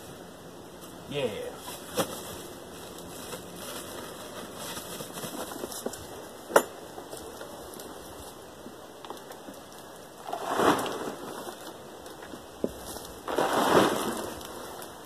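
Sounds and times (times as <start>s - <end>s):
soil crackling in plastic bucket: 0.8s - 6.3s, 6.9s - 15.0s.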